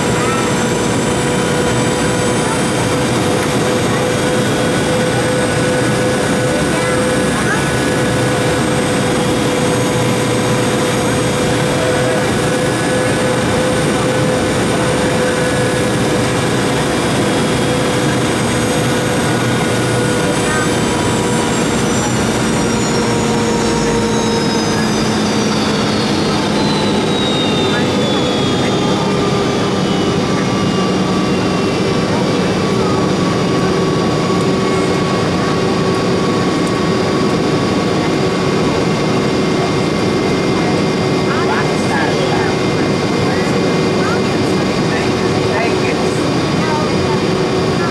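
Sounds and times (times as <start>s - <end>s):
jet engine drone: 0.0s - 47.9s.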